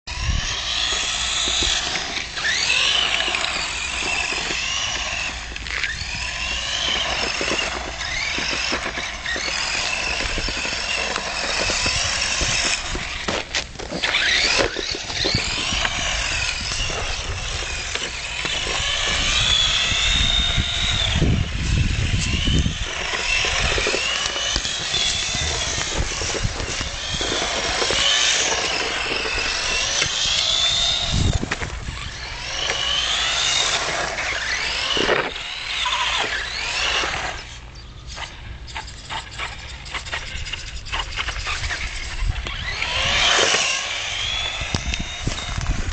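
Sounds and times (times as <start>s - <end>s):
rc car motor whine: 0.1s - 45.9s.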